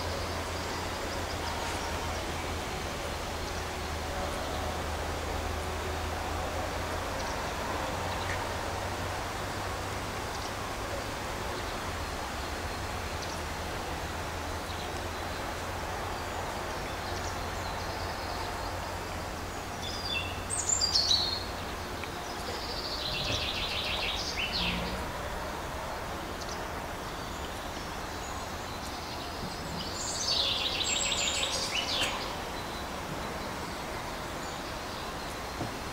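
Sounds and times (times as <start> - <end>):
microphone hiss: 0.0 - 35.9
songbirds singing: 0.0 - 35.9.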